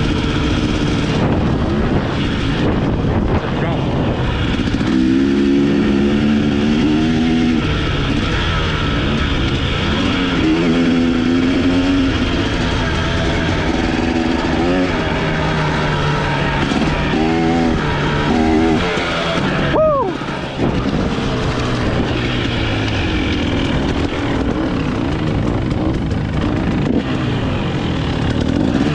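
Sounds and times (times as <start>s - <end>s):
dirt bike engine revving: 0.0s - 28.9s
wind: 0.0s - 28.9s.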